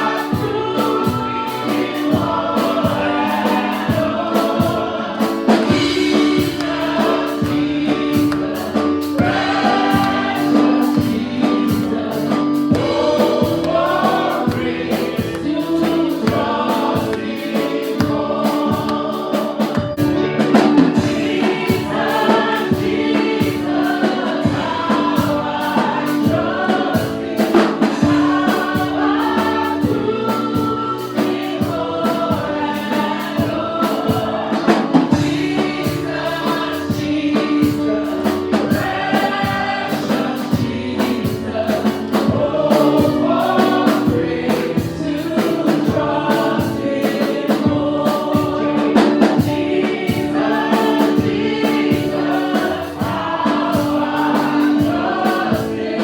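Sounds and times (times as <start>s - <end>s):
choir singing gospel song: 0.0s - 56.0s
instrumental backing with steady beat: 0.0s - 56.0s.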